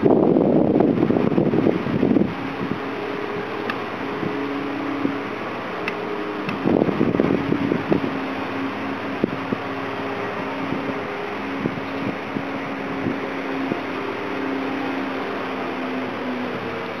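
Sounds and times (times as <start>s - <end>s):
mechanical hum with hiss: 0.0s - 17.0s
wind on microphone: 0.0s - 17.0s.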